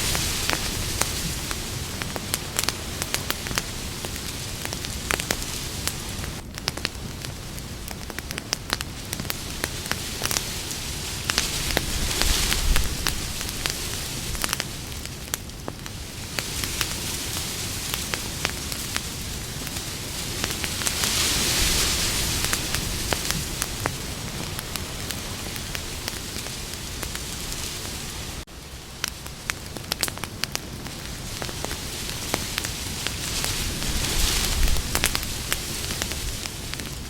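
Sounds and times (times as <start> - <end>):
burning wood crackling and popping: 0.0 - 37.0
campfire flames hissing: 0.0 - 37.0.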